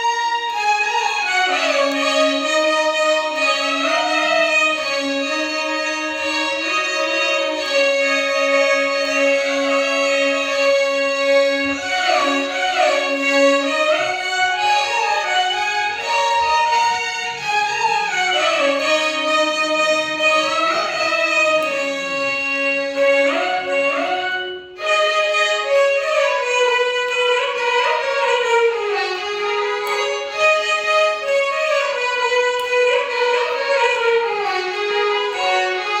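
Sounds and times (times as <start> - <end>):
violin ensemble playing: 0.0 - 36.0.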